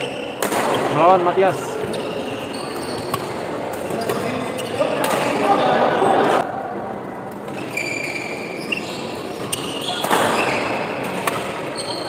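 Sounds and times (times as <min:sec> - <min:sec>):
shoes squeaking on court floor: 0:00.0 - 0:05.4, 0:07.4 - 0:12.0
crowd noise: 0:00.0 - 0:12.0.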